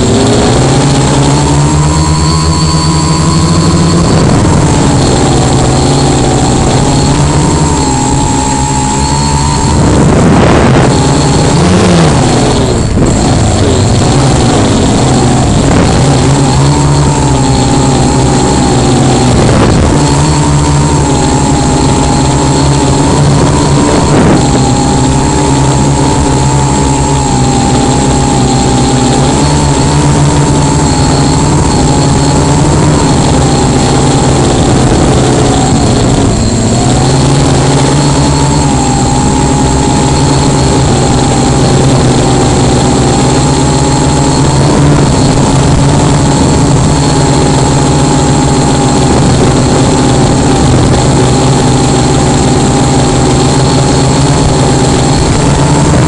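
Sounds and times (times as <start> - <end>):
drone motors and propellers droning: 0.0 - 56.0.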